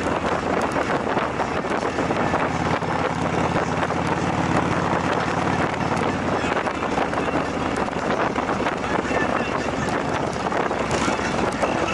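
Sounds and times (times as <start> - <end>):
motorcycle engine cruising: 0.0 - 11.9
wind rush on microphone: 0.0 - 11.9.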